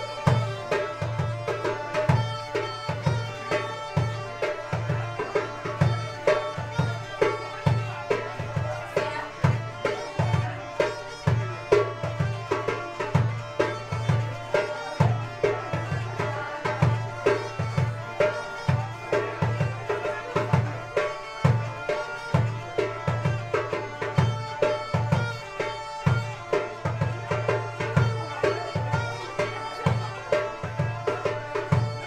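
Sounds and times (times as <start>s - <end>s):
bagpipes playing folk dance tune: 0.0s - 32.0s.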